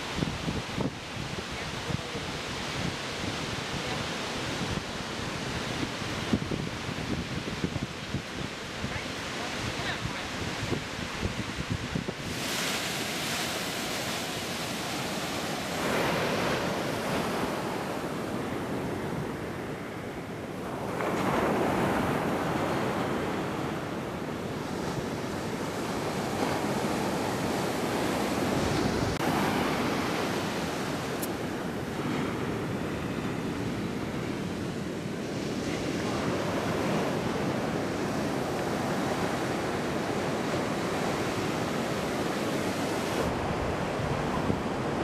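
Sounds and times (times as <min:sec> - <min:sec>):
surf breaking on a beach: 0:00.0 - 0:45.0
wind buffeting the microphone: 0:00.0 - 0:45.0.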